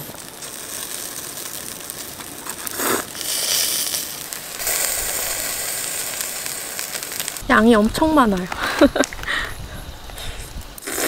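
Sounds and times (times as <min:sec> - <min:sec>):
chicken sizzling on grill: 0:00.0 - 0:11.0
sharp burst of noise: 0:00.0 - 0:11.0.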